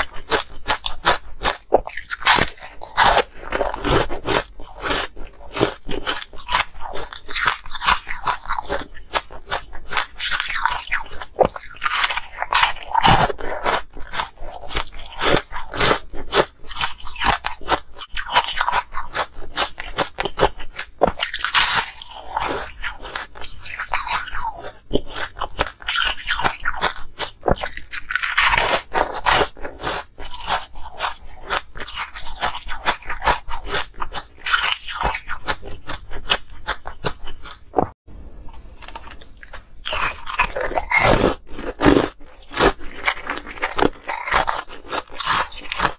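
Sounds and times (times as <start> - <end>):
chewing ice crunches: 0.0 - 45.9.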